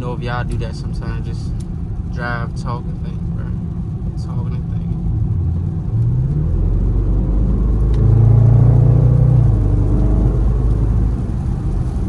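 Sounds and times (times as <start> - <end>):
low rumble of moving car: 0.0 - 12.0
car engine accelerating hard: 1.4 - 12.0.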